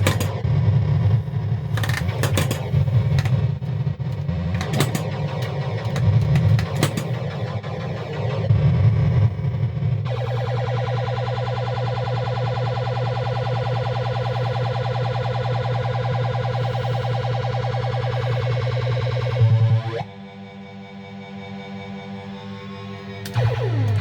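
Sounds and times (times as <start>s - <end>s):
siren-like electronic tone: 0.0s - 24.0s.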